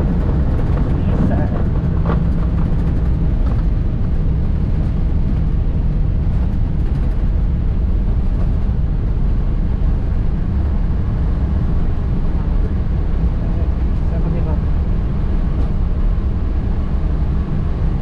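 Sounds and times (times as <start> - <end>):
aircraft engines and wheels rumbling: 0.0 - 18.0.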